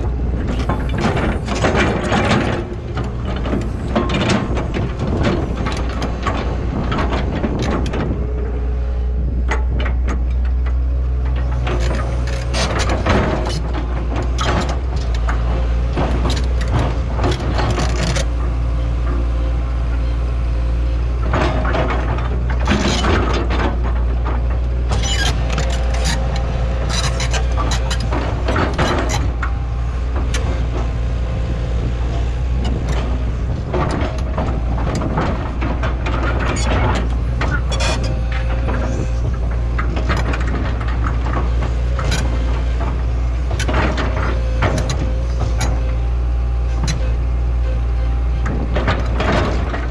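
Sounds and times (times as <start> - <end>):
excavator diesel engine running: 0.0 - 49.9
machine clanks and scrapes: 0.0 - 49.9.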